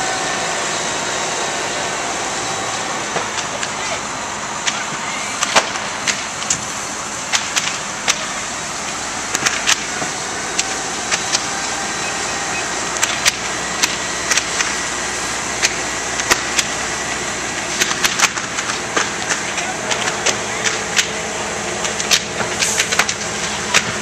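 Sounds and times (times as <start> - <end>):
fire engine motors: 0.0 - 24.0
rushing flames: 0.0 - 24.0
fire crackles and pops: 3.1 - 4.0, 4.6 - 11.6, 12.2 - 24.0.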